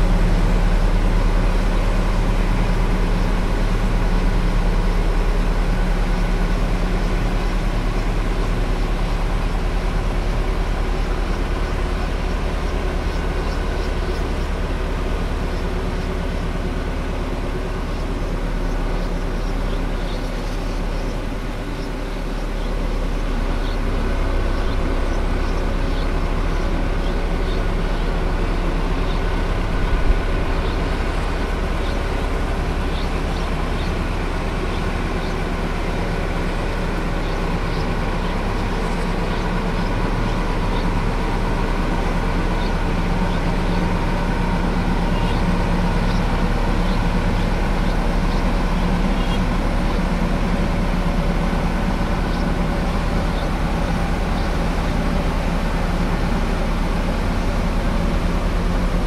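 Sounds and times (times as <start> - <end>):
heavy vehicle engine running: 0.0 - 59.0.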